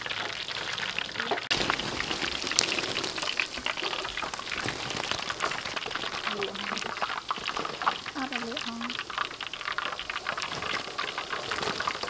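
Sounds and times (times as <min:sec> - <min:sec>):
chicken wings deep-frying in oil: 0:00.0 - 0:12.0.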